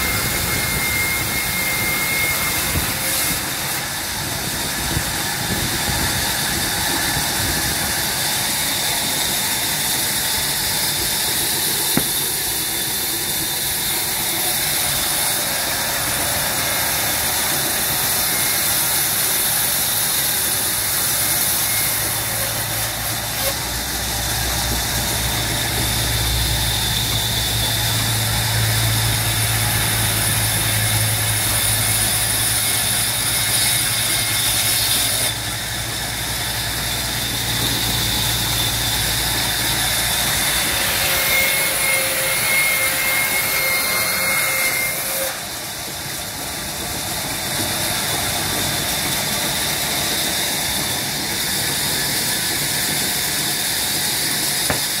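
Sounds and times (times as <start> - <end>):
band saw machine hum: 0.0 - 53.7
band saw high whine: 0.0 - 55.0.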